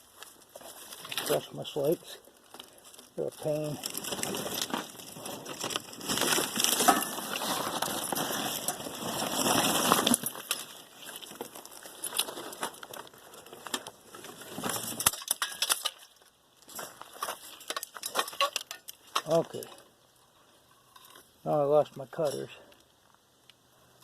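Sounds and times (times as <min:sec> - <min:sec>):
wire and plastic rustling and crackling: 0:00.0 - 0:23.7.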